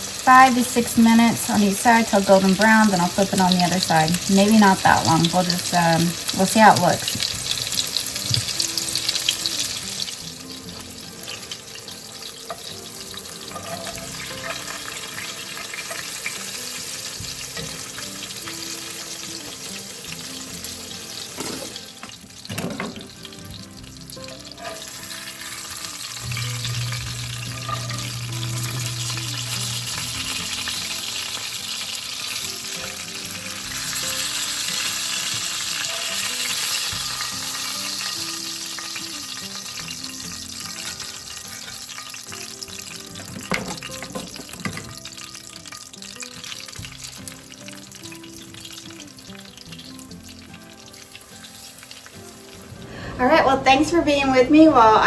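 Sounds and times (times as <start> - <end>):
fish frying in hot oil: 0.0 - 52.7.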